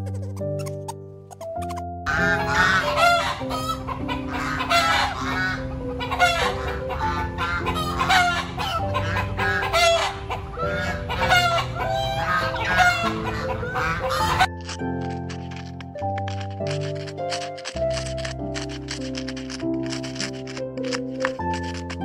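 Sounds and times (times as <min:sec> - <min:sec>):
chickens calling: 0:00.6 - 0:22.0
geese calling: 0:02.1 - 0:22.0.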